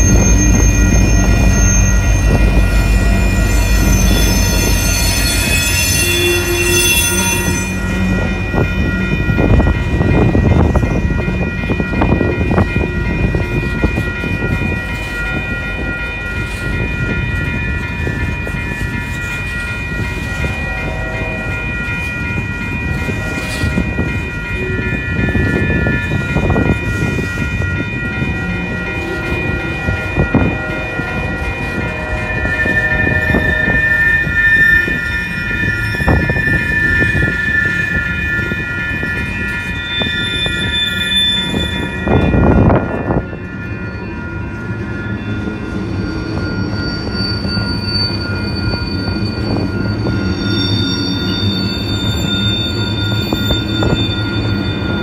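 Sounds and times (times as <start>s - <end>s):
crossing bell ringing: 0.0s - 55.0s
diesel locomotive passing: 0.0s - 55.0s.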